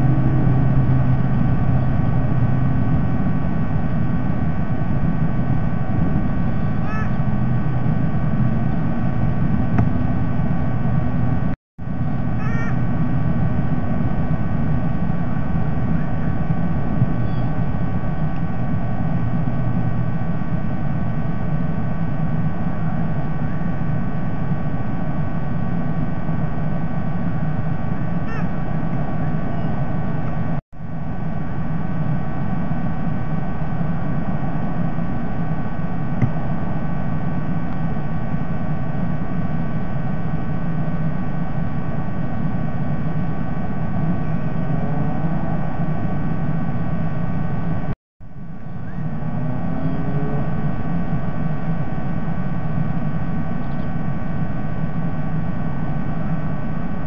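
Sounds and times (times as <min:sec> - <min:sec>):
faint whining tones: 0:00.0 - 0:57.0
steady hum and hiss: 0:00.0 - 0:57.0.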